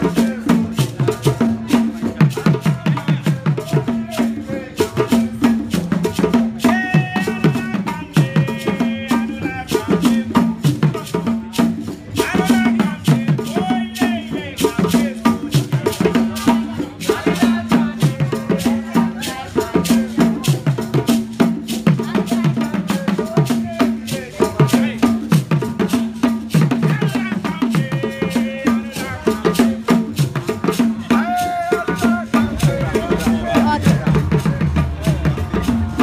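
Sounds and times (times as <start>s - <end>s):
shaker-like percussion: 0.0s - 36.0s.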